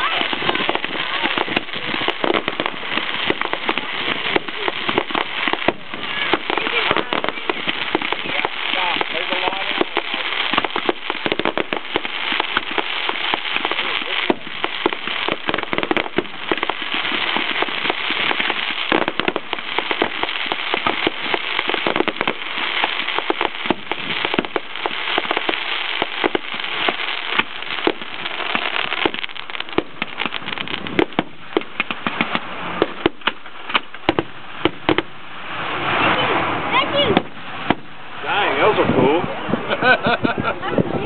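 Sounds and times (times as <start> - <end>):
fireworks popping and crackling: 0.0 - 41.0.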